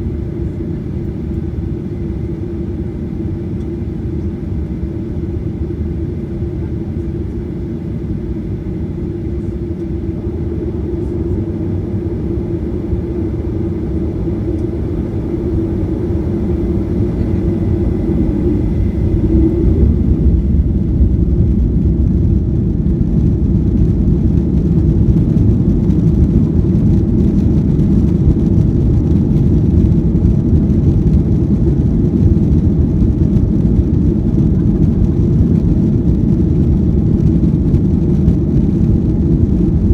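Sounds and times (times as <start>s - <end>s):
jet engine low rumble: 0.0s - 39.9s.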